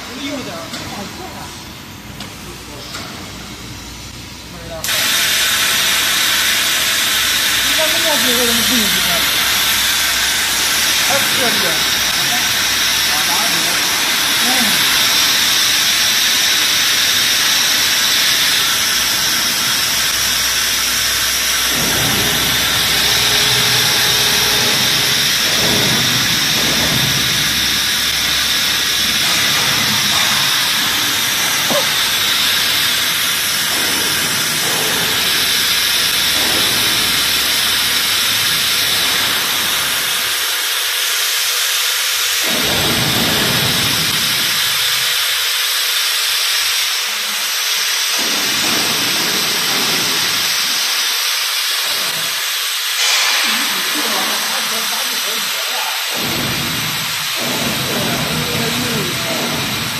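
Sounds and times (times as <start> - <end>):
frying machine hissing: 0.0 - 59.9.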